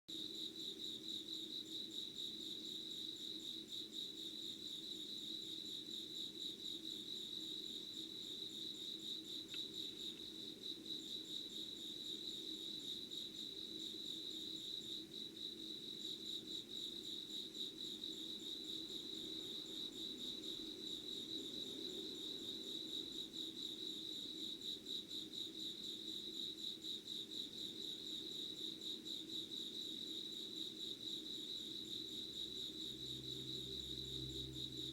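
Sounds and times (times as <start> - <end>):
insects chirping: 0.2 - 34.9.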